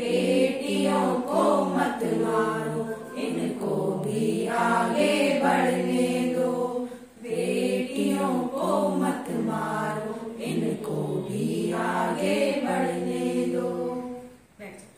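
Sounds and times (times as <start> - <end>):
women singing together: 0.0 - 14.5.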